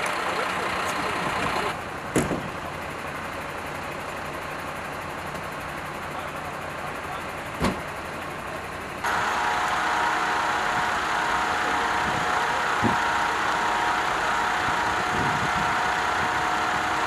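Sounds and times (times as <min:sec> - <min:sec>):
street noise: 0:00.0 - 0:17.0
vehicle engines idling: 0:00.0 - 0:17.0.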